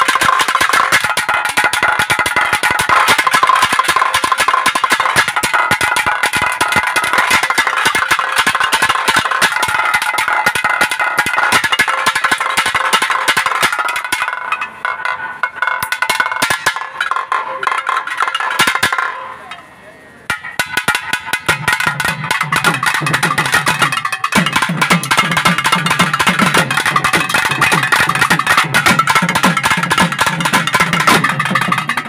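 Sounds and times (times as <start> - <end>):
fast dense drumming: 0.0 - 14.5, 20.3 - 32.0.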